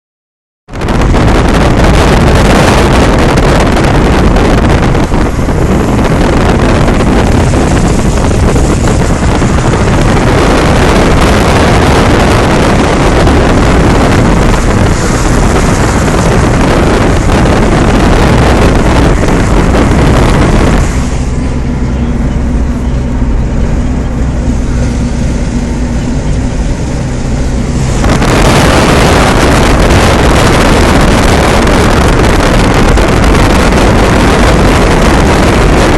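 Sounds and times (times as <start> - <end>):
wind buffeting microphone: 0.7 - 35.9.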